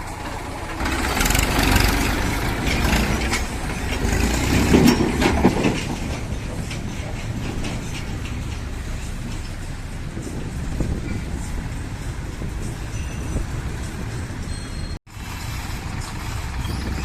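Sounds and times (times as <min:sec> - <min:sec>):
heavy diesel engine running: 0:00.0 - 0:17.0
knocks and clatter: 0:00.2 - 0:14.5.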